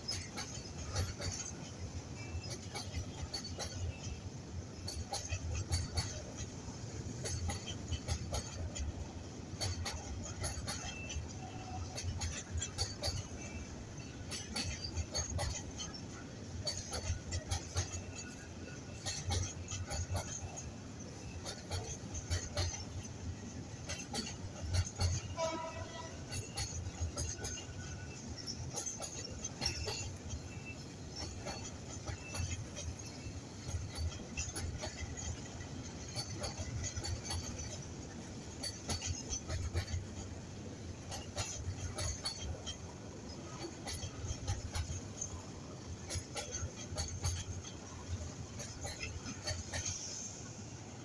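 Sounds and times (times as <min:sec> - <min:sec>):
metallic clicks and clanks: 0:00.0 - 0:40.4, 0:41.0 - 0:50.4
wheels knocking on rails: 0:00.0 - 0:50.4
train rumbling past: 0:00.0 - 0:51.0.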